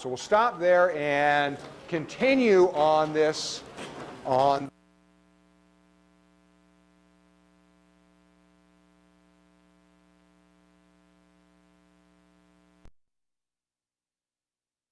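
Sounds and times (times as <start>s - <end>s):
faint electrical hum and hiss: 0.0s - 12.9s.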